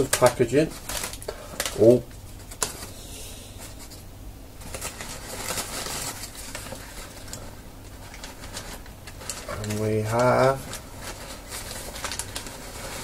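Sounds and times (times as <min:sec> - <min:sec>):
newspaper rustling and crinkling: 0:00.0 - 0:03.0, 0:04.6 - 0:13.0.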